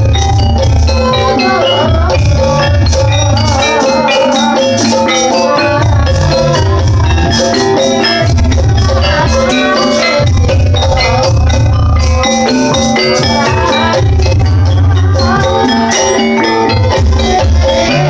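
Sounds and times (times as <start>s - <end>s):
metallophones playing quick runs: 0.0s - 18.0s.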